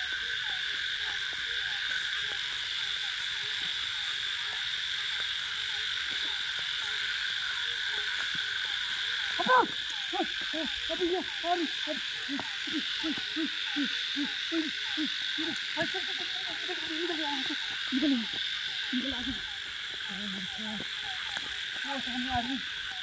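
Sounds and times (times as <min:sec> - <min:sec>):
night insects chorus: 0:00.0 - 0:23.0.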